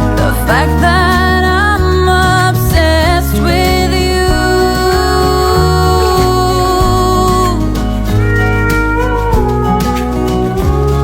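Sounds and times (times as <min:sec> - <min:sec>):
slow pop song: 0:00.0 - 0:11.0.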